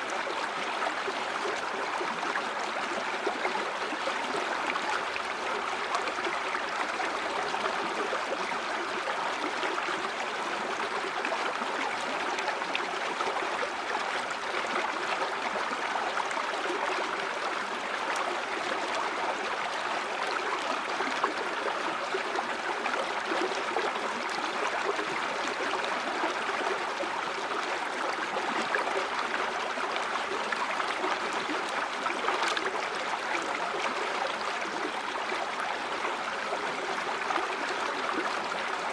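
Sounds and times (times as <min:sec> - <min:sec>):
stream flowing and gurgling: 0:00.0 - 0:38.9.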